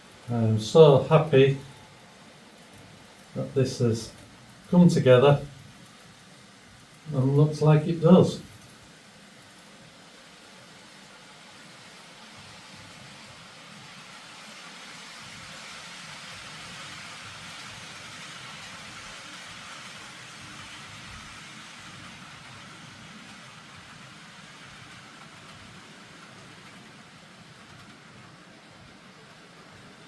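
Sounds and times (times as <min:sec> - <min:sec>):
model train whirring along track: 0:00.0 - 0:30.0.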